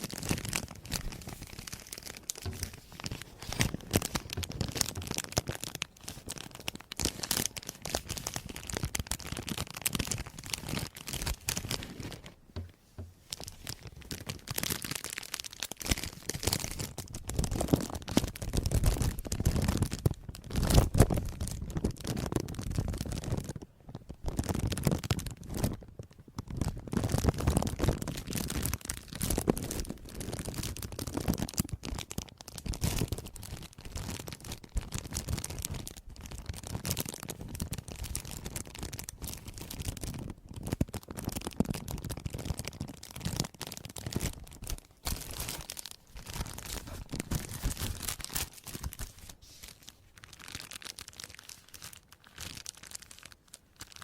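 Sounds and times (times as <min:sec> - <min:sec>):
crackling and crinkling: 0:00.0 - 0:54.0.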